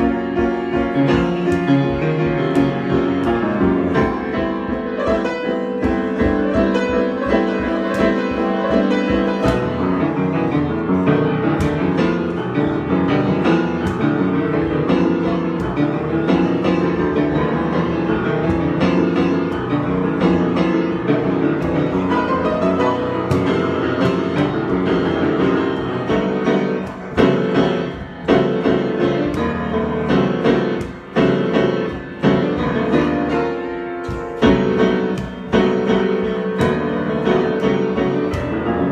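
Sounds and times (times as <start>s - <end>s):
solo piano playing: 0.0s - 38.9s.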